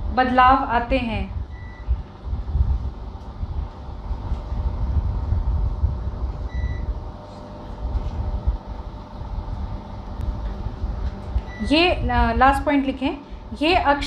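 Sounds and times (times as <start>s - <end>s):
low room rumble and hum: 0.0s - 14.0s.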